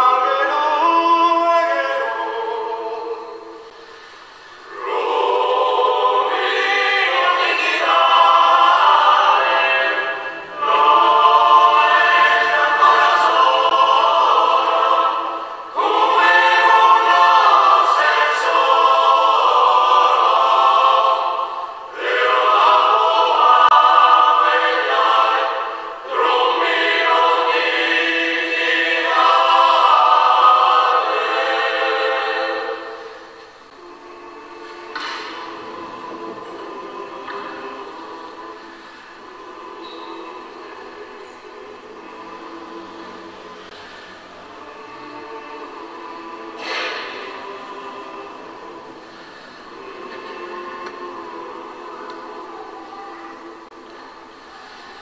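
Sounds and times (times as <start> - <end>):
men's choir singing a cappella: 0.0 - 55.0.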